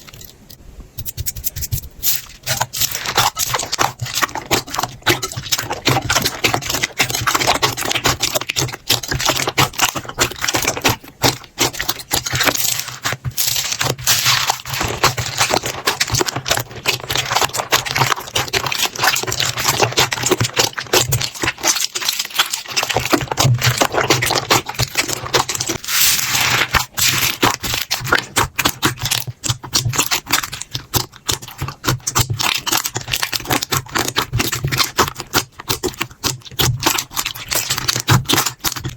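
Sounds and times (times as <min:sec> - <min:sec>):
slime squishing: 0:00.0 - 0:38.9.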